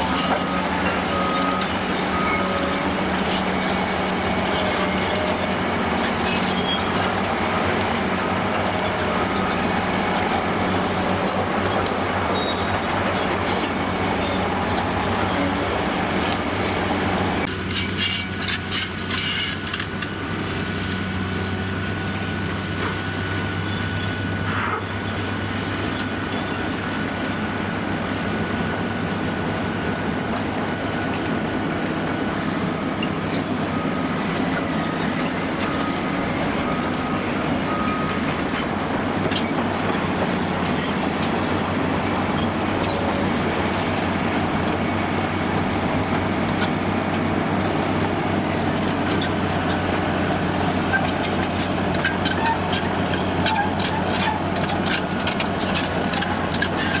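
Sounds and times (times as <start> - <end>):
diesel excavator running: 0.0 - 57.0.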